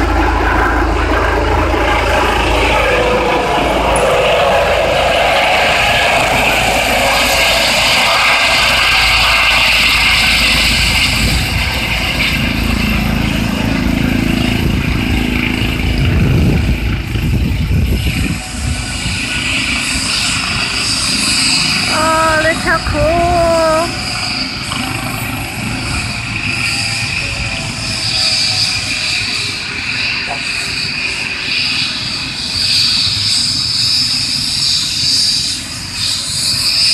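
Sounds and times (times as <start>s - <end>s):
helicopter rotor and engine: 0.0s - 36.9s.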